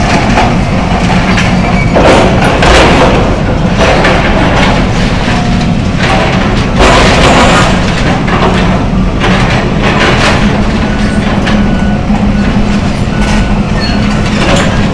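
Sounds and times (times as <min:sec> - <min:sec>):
debris crashing and scraping: 0:00.0 - 0:11.8, 0:12.5 - 0:14.9
excavator diesel engine running: 0:00.0 - 0:14.9.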